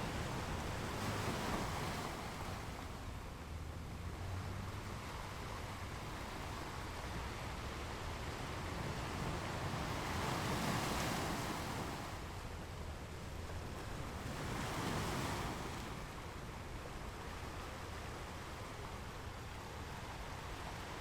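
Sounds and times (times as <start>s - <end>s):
ocean waves on shore: 0.0s - 21.0s.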